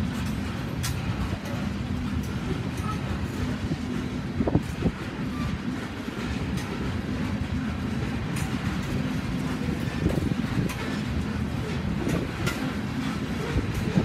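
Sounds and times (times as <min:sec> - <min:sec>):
sharp train knocks: 0:00.0 - 0:14.0
train wheels rumbling on rail: 0:00.0 - 0:14.0.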